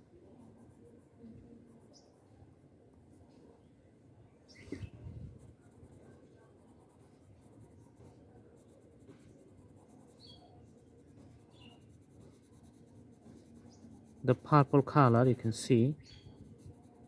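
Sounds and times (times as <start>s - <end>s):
colouring strokes on paper: 0.3s - 2.4s, 4.5s - 17.0s.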